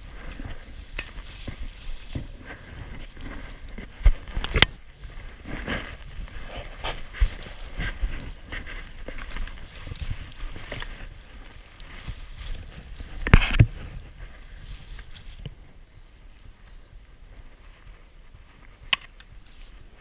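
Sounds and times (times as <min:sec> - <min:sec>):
leafy branches rustling: 0:00.0 - 0:20.0.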